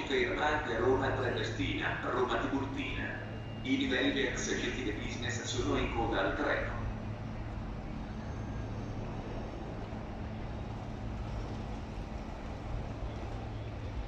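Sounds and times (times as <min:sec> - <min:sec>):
constant low hum: 0:00.0 - 0:14.0
railway platform background noise: 0:00.0 - 0:14.0.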